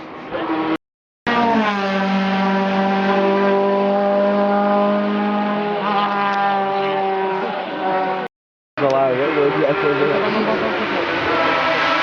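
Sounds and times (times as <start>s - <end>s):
race car engine at high revs: 0.3s - 12.0s.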